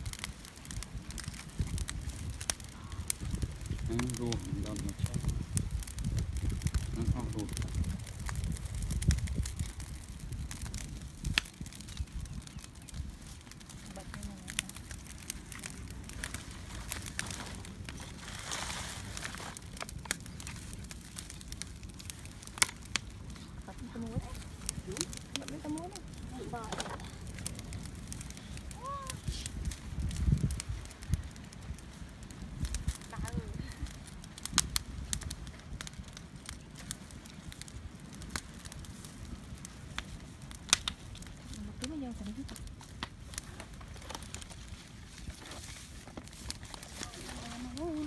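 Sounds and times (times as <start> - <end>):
sharp pops of fire: 0.0 - 48.0
wood fire crackling: 0.0 - 48.0.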